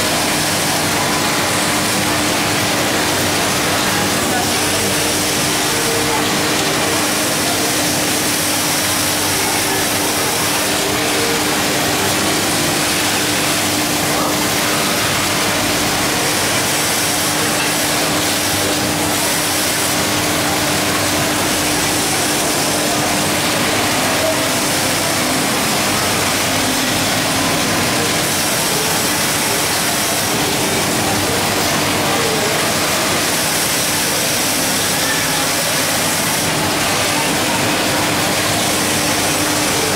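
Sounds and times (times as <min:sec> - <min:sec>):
steady hum: 0:00.0 - 0:39.9
workshop machinery din: 0:00.0 - 0:39.9.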